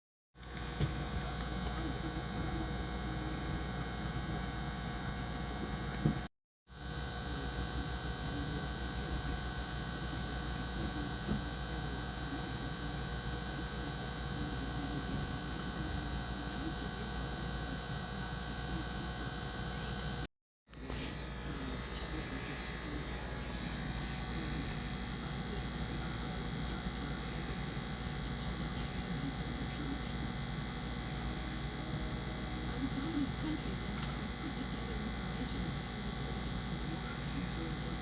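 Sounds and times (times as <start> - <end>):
microwave oven humming: 0.4 - 38.0.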